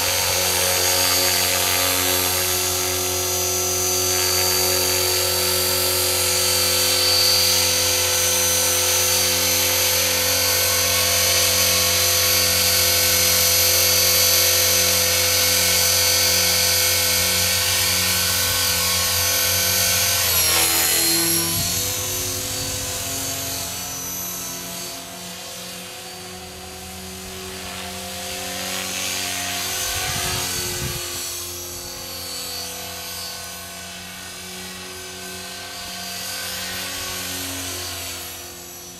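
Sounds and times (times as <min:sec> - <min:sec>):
rc helicopter motor whine: 0:00.0 - 0:38.9.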